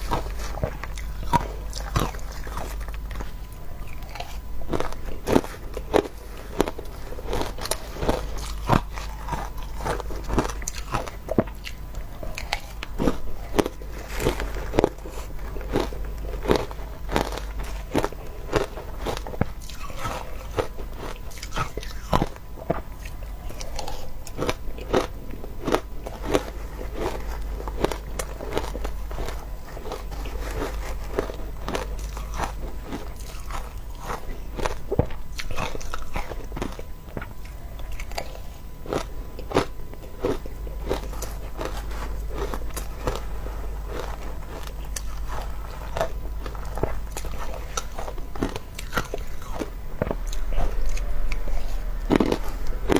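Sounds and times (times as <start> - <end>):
crunching shaved ice: 0.0 - 52.9
steady low hum: 0.0 - 52.9.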